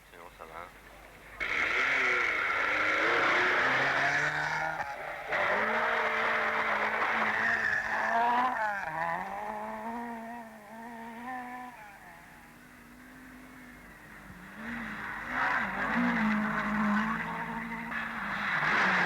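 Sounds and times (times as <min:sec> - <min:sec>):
rally car engine revving: 0:01.1 - 0:19.0.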